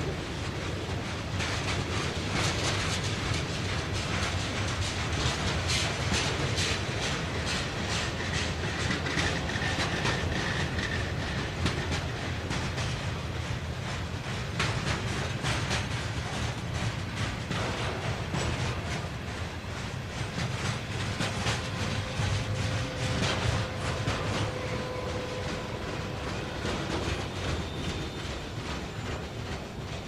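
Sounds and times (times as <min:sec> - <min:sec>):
freight train rumble: 0:00.0 - 0:30.0
train wheels clicking over rail joints: 0:00.0 - 0:30.0.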